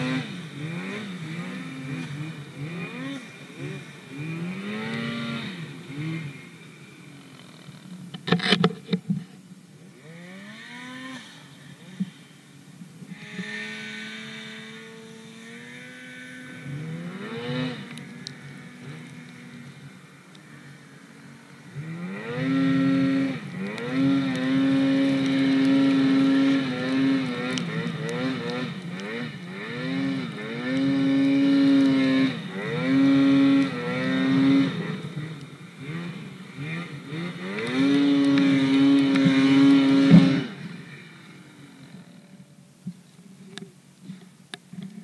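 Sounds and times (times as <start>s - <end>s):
snowmobile engine revving: 0.0s - 9.0s, 9.8s - 12.4s, 13.0s - 42.6s.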